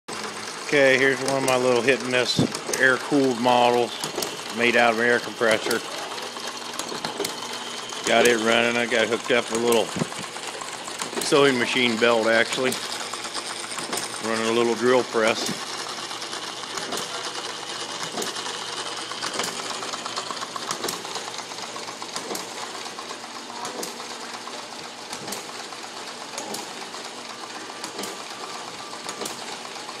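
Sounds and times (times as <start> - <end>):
small engine clattering: 0.1 - 30.0.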